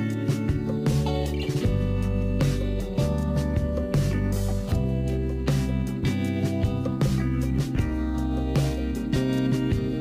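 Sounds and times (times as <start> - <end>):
instrumental guitar music: 0.0 - 10.0.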